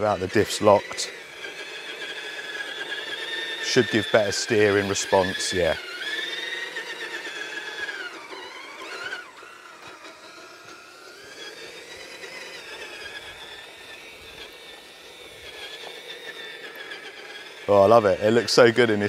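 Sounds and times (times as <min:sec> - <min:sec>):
rc truck electric motor whining: 0:00.0 - 0:19.0.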